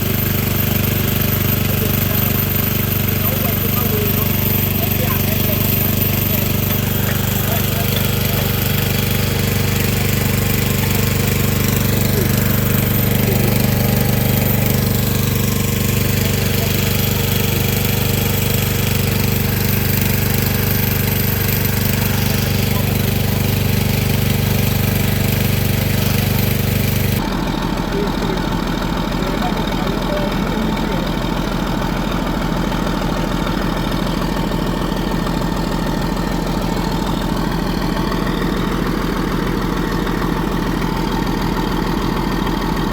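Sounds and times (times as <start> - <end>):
diesel engine idling: 0.0 - 42.9
pulsing engine: 0.0 - 42.9.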